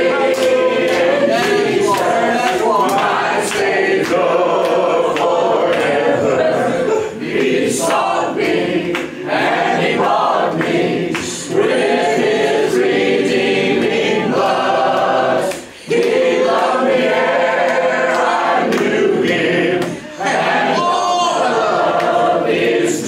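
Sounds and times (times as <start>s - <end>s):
congregation singing a hymn: 0.0s - 23.0s.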